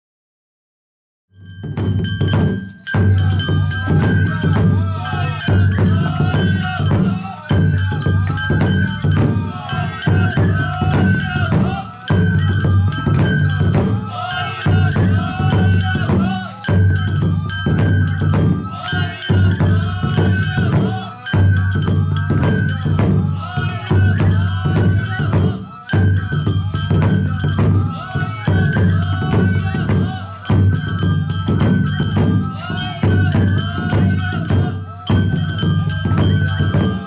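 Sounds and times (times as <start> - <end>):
drum beats: 1.4 - 37.0.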